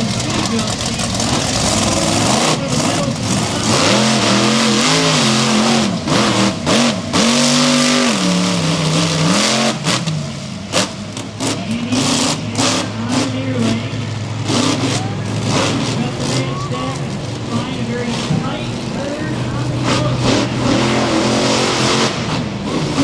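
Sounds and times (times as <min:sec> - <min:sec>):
engine and track noise: 0:00.0 - 0:23.0
monster truck engines revving: 0:00.0 - 0:23.0.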